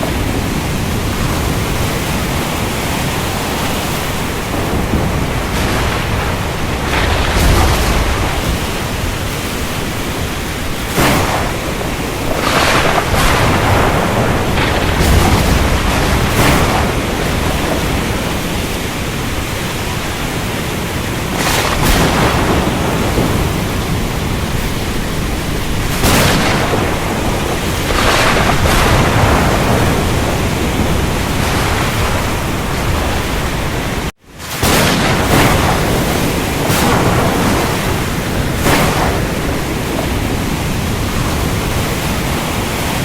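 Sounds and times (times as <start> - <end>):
rain: 0.0 - 43.0
surf: 0.0 - 43.0
wind: 0.0 - 43.0.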